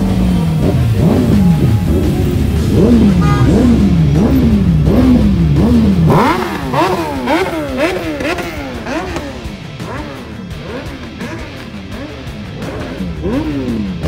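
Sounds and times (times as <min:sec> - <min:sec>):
low engine rumble: 0:00.0 - 0:14.0
motorcycle engines revving: 0:00.0 - 0:14.0.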